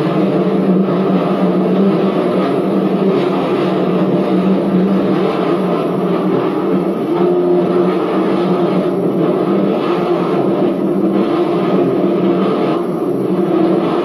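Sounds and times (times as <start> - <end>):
race car engine running: 0.0 - 14.0.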